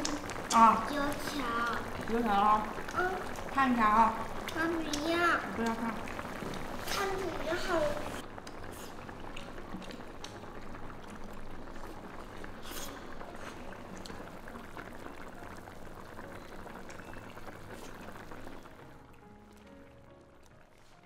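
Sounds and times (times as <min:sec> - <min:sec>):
broth bubbling: 0:00.0 - 0:21.0.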